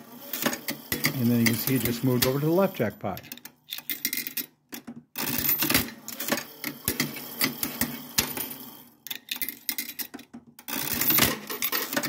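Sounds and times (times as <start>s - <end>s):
slot machine reels clicking: 0.2s - 4.5s, 5.2s - 10.1s, 10.7s - 12.0s.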